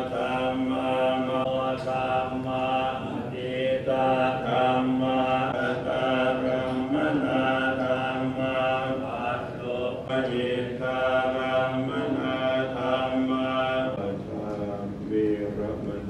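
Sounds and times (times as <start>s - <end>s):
monks chanting in unison: 0.0s - 16.0s.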